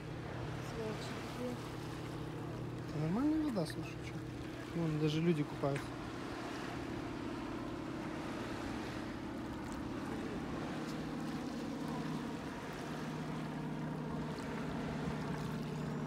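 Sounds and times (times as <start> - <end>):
airplane engine drone: 0.0 - 16.0
surf: 0.0 - 16.0
wind: 0.0 - 16.0.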